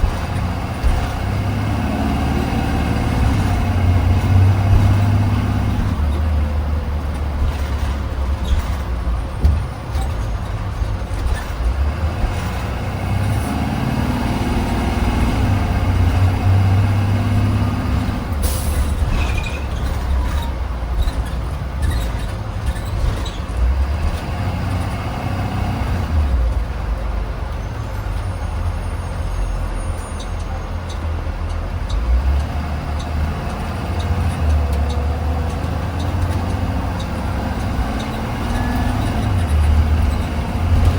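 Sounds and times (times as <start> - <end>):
bus engine drone and road rumble: 0.0 - 40.9.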